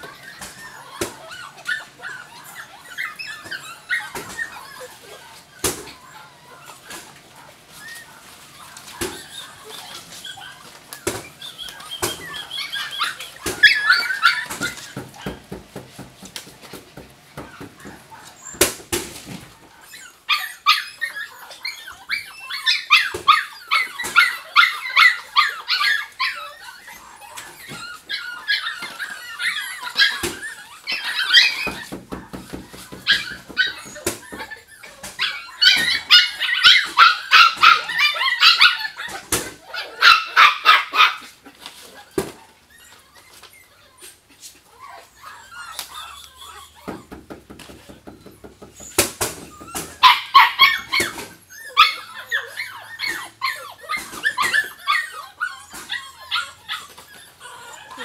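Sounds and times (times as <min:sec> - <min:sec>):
puppies barking and yipping: 0:00.0 - 0:58.0.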